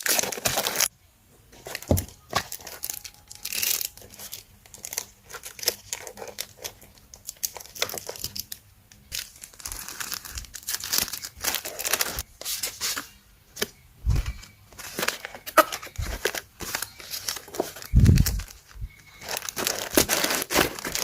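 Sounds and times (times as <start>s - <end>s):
packaging crinkling and rustling: 0.0s - 0.9s, 1.6s - 21.0s
packaging tearing: 0.0s - 0.9s, 2.4s - 12.2s, 14.8s - 21.0s.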